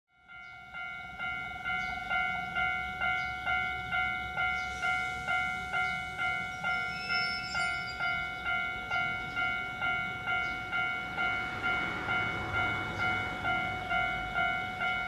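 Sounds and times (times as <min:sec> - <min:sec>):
level-crossing alarm bell: 0:00.1 - 0:15.0.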